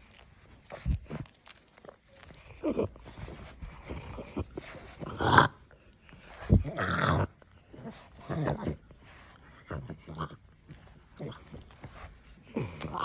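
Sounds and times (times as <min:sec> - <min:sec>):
dog snuffling and snorting: 0:02.2 - 0:13.0
dog grumble: 0:02.4 - 0:13.0.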